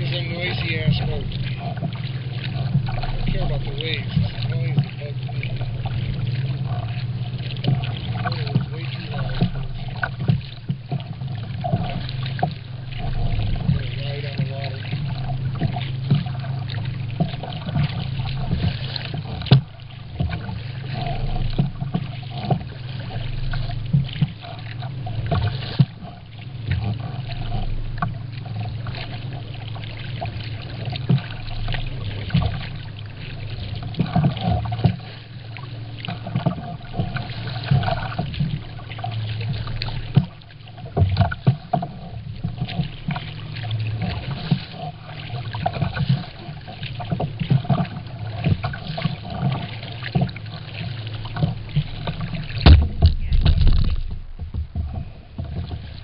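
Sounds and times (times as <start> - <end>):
low rumble of wind and water: 0.0 - 56.0
paddle knocking against hull: 0.0 - 56.0
water splashing off paddle: 0.0 - 56.0.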